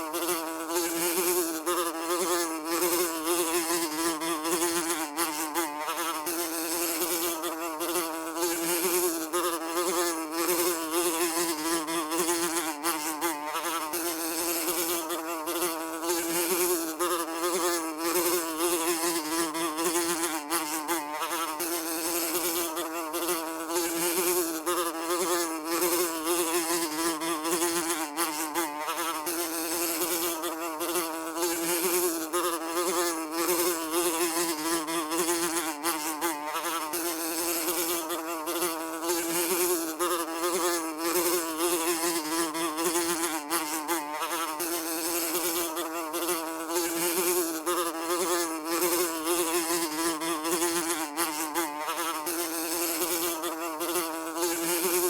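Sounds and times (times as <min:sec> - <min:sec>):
housefly buzzing: 0:00.0 - 0:55.0.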